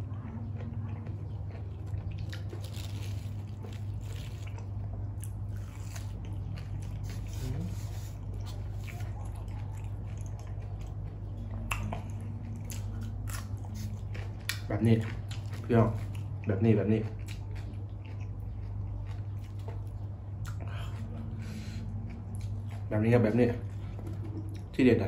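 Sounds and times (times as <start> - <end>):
wet crunchy chewing: 0.0 - 22.9
steady low hum: 0.0 - 25.0.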